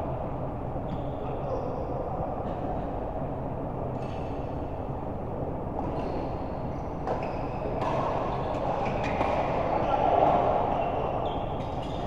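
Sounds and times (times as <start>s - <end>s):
sports hall background noise: 0.0s - 12.0s.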